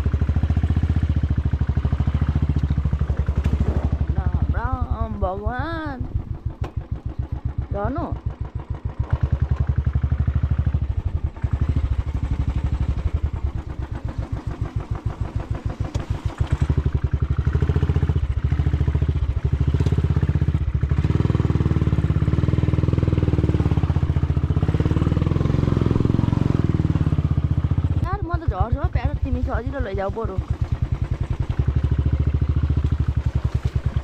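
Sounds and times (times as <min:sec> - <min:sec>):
motorcycle engine at low revs: 0:00.0 - 0:34.0.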